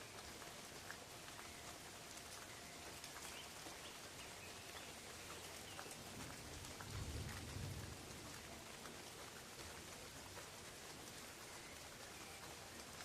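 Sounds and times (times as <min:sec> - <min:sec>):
rain falling on leaves: 0:00.0 - 0:13.0
water drips: 0:00.0 - 0:13.0.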